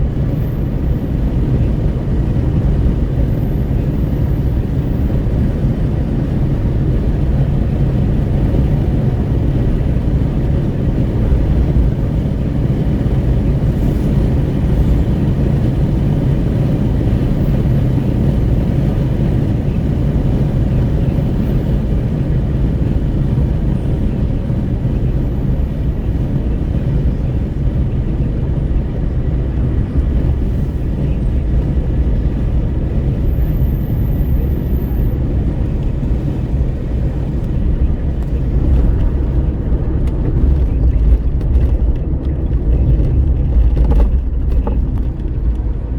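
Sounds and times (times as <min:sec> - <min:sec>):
car engine: 0:00.0 - 0:45.9
wind rushing at window: 0:00.0 - 0:45.9.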